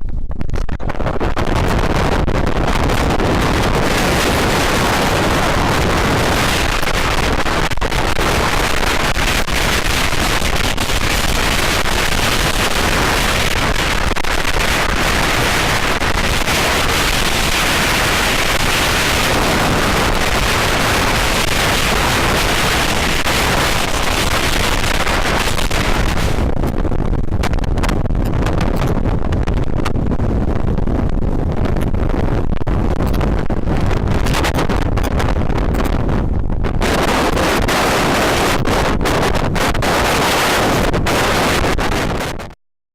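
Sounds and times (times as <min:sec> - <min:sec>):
wind buffeting microphone: 0:00.0 - 0:42.6.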